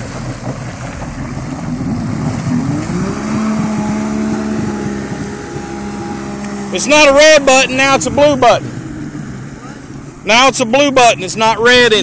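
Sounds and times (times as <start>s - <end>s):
jet ski engine pulling away: 0.0s - 12.0s.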